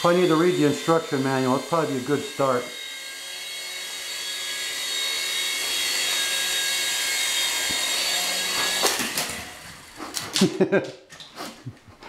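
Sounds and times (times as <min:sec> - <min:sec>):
toy helicopter rotors whining: 0:00.0 - 0:10.6.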